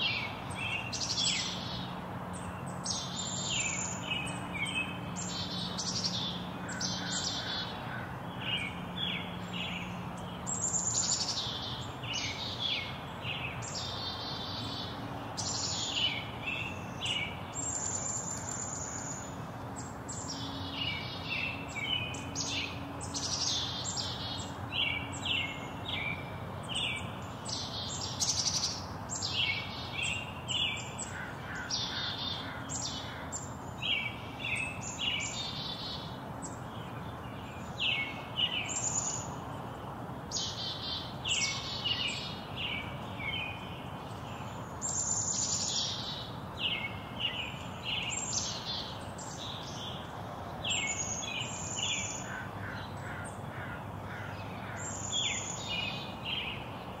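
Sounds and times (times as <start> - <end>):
low background noise: 0.0 - 57.0
songbirds chirping and twittering: 0.0 - 57.0.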